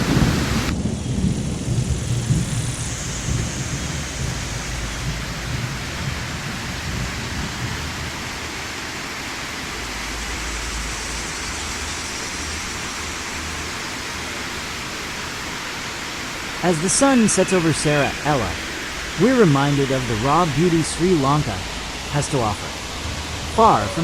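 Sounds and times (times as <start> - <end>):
falling water rushing: 0.0 - 24.0.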